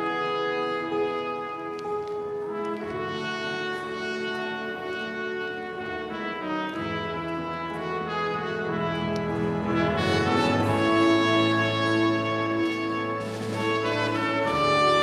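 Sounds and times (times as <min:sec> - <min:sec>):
pipe organ playing sustained chords: 0:00.0 - 0:15.0.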